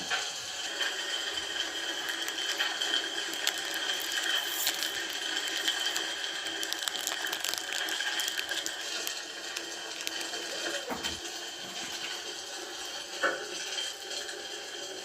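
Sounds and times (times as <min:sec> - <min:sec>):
wood fire crackling: 0:00.0 - 0:14.8.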